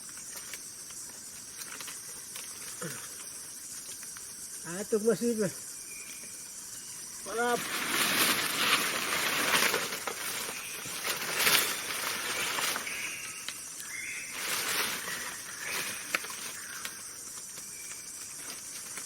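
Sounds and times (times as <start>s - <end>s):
rustling: 0.0s - 4.3s, 7.2s - 19.0s
insects hissing: 0.0s - 19.0s.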